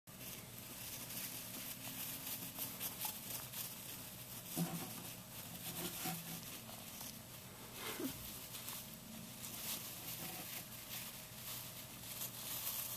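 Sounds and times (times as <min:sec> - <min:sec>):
hamster scratching in bedding: 0:00.1 - 0:12.9.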